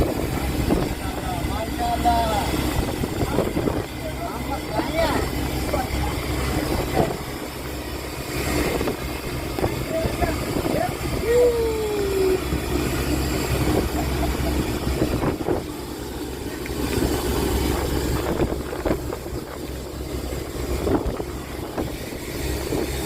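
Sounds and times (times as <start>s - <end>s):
boat engine running: 0.0s - 23.0s
wind on microphone: 0.0s - 23.0s.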